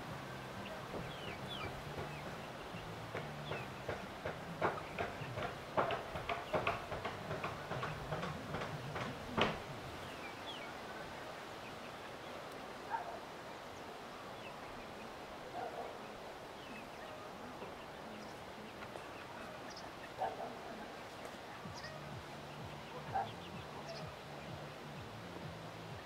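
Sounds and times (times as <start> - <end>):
hen scratching ground: 0.0 - 13.2, 14.2 - 26.0.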